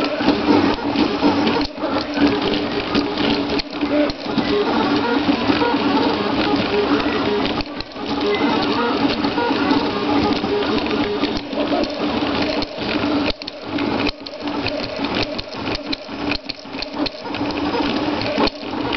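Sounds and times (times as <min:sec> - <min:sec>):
printer head clicking and rattling: 0:00.0 - 0:18.9
stepper motors whining: 0:00.0 - 0:18.9.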